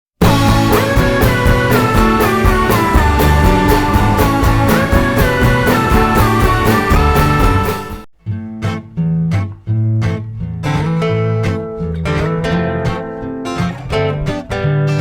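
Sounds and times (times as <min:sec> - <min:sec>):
rock music with guitar: 0:00.2 - 0:15.0.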